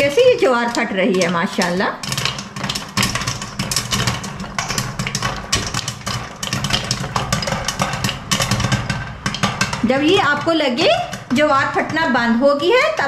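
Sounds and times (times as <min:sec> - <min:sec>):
kernels popping in hot oil: 0:00.0 - 0:13.0.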